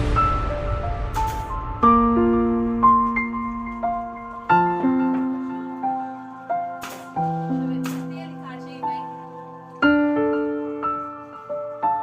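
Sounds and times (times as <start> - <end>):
soft piano notes: 0.0 - 12.0.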